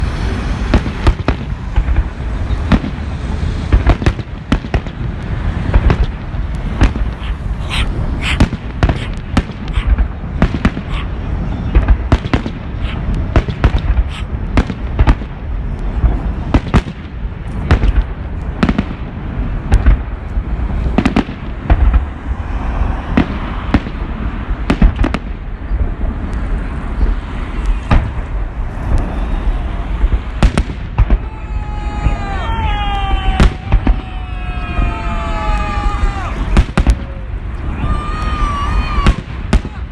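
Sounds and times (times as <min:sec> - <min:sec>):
fireworks bangs: 0:00.0 - 0:39.9
low rumble: 0:00.0 - 0:39.9.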